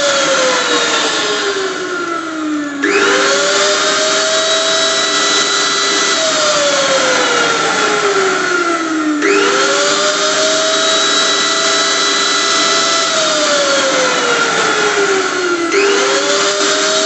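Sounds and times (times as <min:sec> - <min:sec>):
blender motor whirring: 0:00.0 - 0:17.0.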